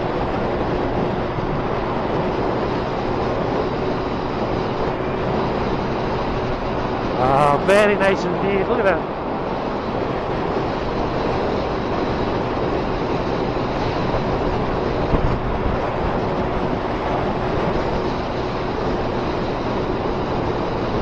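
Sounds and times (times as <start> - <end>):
motorcycle engine running steadily: 0.0 - 21.0
road noise: 0.0 - 21.0
wind rush: 0.0 - 21.0.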